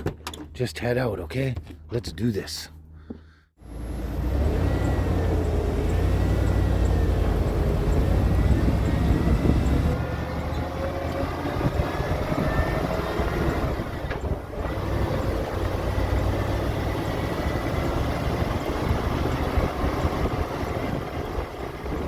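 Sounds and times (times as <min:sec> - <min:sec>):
road noise: 0:00.0 - 0:22.0
truck engine rumble: 0:00.0 - 0:22.0.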